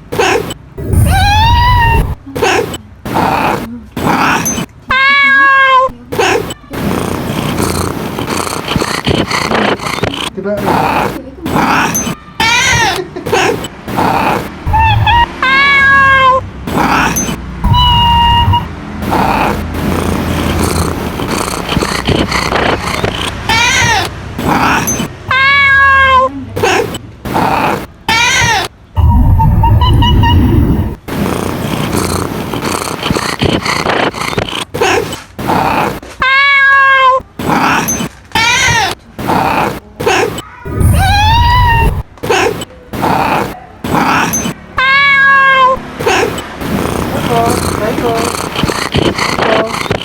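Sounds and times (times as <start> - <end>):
cat meowing: 0.2 - 31.0, 31.9 - 39.4, 40.2 - 50.0.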